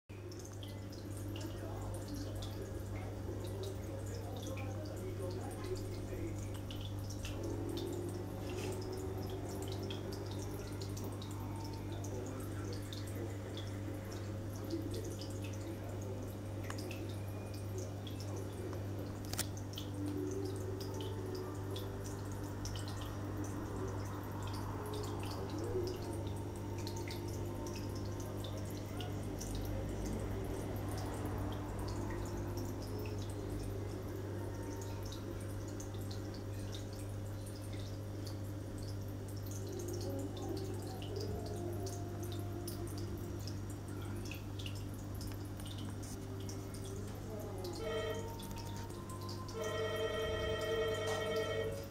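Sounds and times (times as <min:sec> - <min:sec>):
water dripping and trickling: 0:00.1 - 0:51.9.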